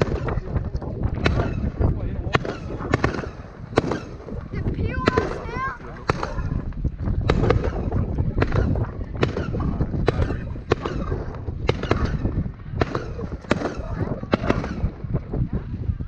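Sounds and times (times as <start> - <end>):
fireworks bursting: 0.0 - 15.2
low rumble: 0.0 - 16.0.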